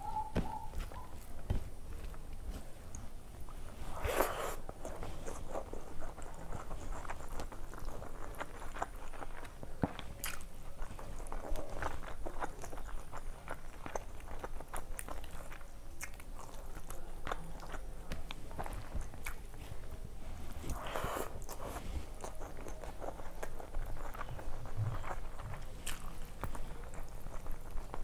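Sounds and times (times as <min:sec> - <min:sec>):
wet chewing and lip-smacking: 0:02.9 - 0:28.0.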